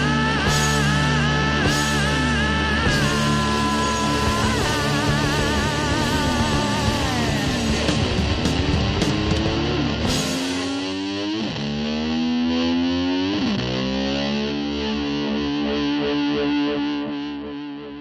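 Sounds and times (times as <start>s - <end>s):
distorted electric guitar: 0.0s - 18.0s.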